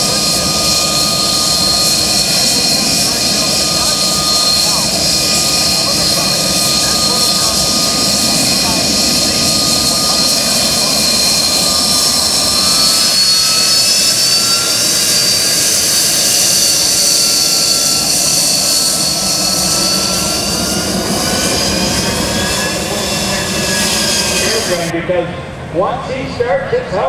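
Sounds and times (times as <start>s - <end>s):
jet engine whine and rush: 0.0s - 27.0s.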